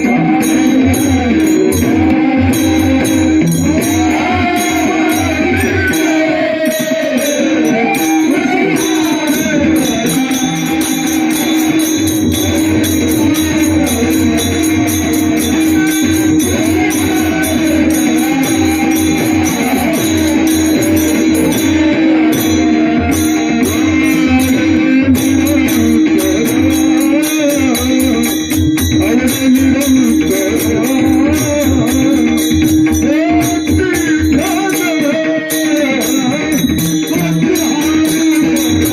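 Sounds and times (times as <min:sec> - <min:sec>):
drum rhythm: 0:00.0 - 0:38.9
man singing: 0:00.0 - 0:38.9
small hand cymbals: 0:00.0 - 0:38.9.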